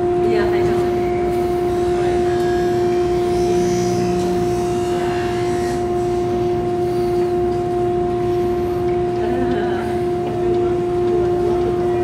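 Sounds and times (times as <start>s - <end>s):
loud steady two-note hum: 0.0s - 12.0s.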